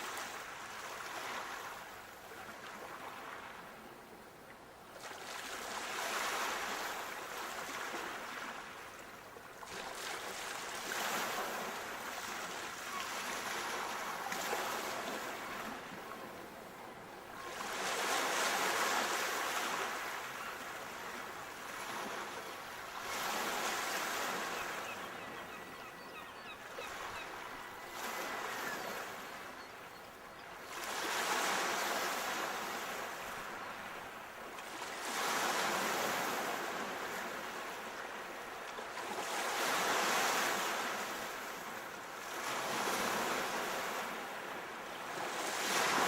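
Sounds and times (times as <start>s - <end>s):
sea waves breaking on shore: 0.0s - 4.0s, 4.8s - 46.0s.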